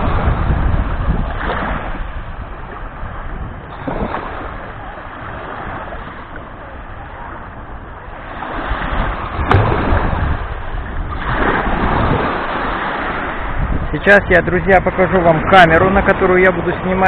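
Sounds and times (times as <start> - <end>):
waves lapping on sandy shore: 0.0 - 17.0.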